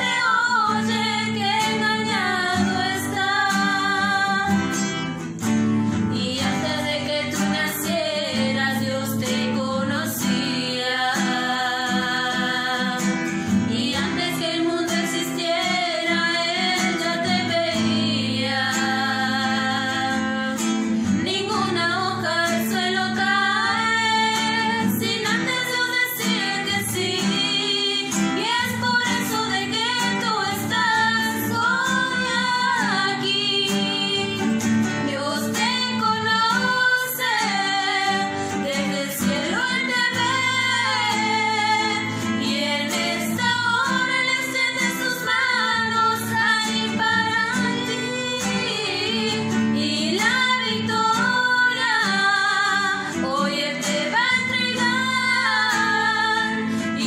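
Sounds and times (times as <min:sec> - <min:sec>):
women singing together: 0:00.0 - 0:05.1, 0:05.9 - 0:57.0
strummed acoustic guitar: 0:00.0 - 0:57.0.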